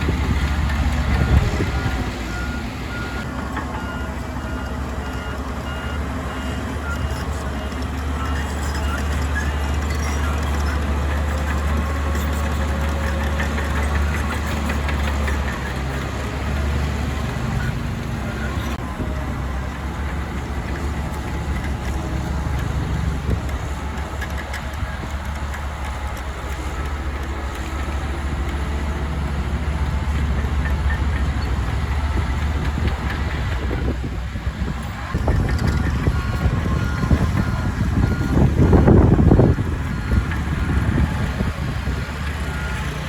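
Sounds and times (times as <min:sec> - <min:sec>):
heavy diesel engine idling: 0:00.0 - 0:43.0.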